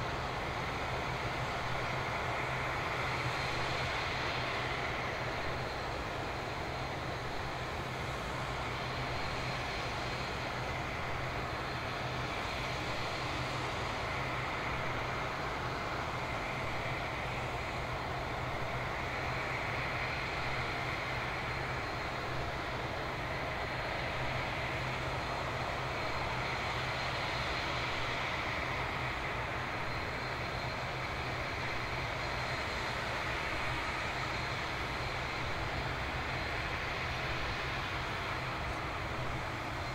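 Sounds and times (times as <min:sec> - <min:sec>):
jet airliner engine whine: 0:00.0 - 0:39.9.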